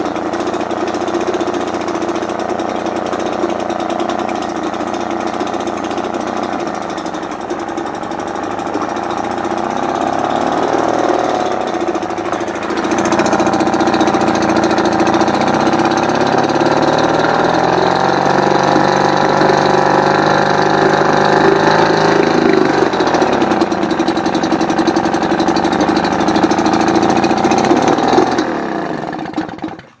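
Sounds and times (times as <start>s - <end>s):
two-stroke outboard engine running: 0.0s - 30.0s.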